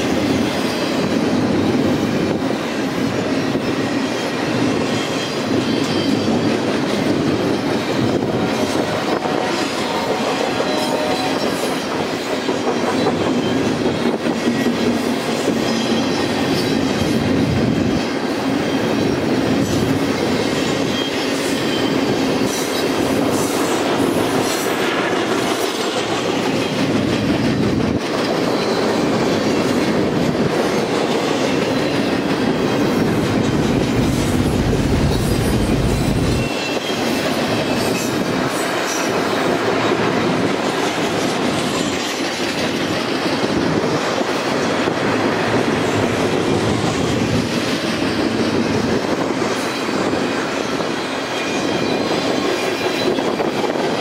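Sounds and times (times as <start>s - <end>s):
freight train rumbling past: 0.0s - 54.0s
wheels clickety-clack over rail joints: 0.0s - 54.0s.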